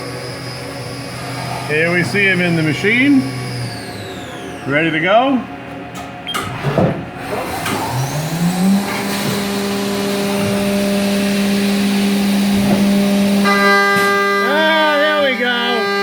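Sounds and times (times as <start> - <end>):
end mill cutting aluminium: 0.0 - 4.9, 7.2 - 16.0
mill spindle whine: 0.0 - 16.0.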